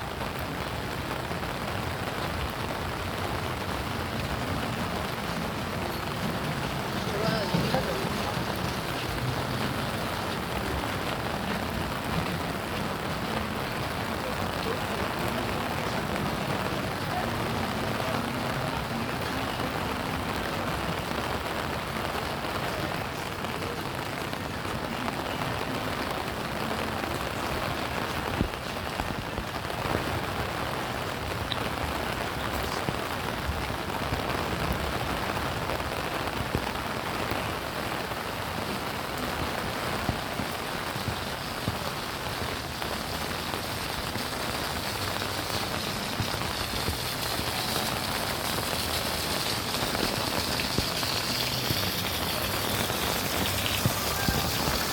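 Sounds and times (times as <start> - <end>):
steady rain falling: 0.0 - 54.9
sharp raindrop ticks: 0.1 - 54.9.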